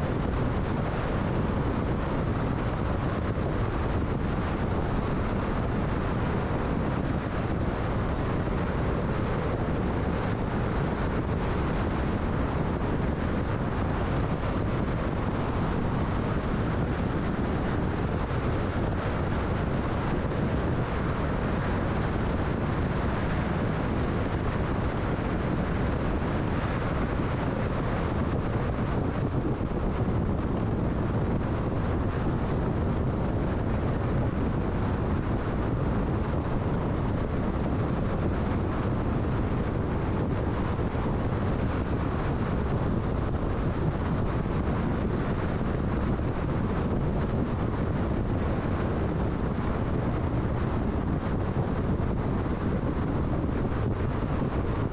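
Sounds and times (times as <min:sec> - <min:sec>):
car road and wind noise: 0:00.0 - 0:54.9.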